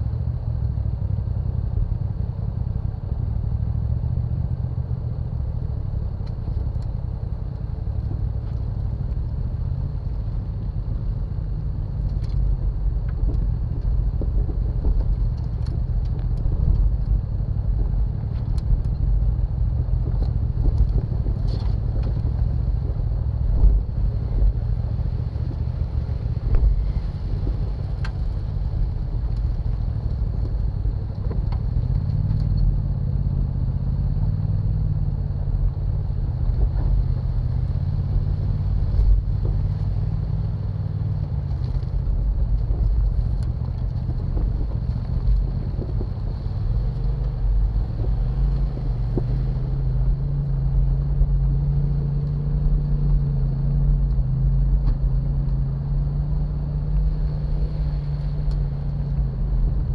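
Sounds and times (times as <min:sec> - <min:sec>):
car engine rumbling: 0:00.0 - 0:59.9.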